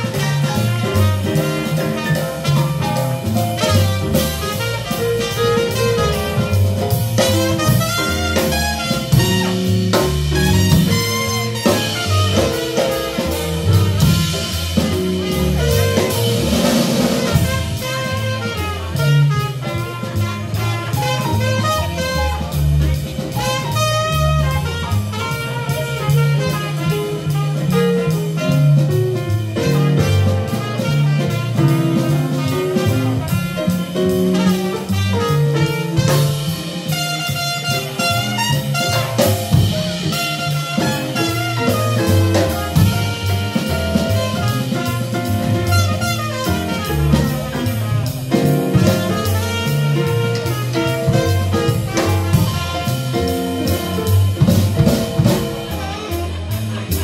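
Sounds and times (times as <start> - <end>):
drum kit with ride cymbal: 0.0 - 57.0
horn solo: 0.0 - 57.0
piano: 0.0 - 57.0
upright bass walking line: 0.0 - 57.0.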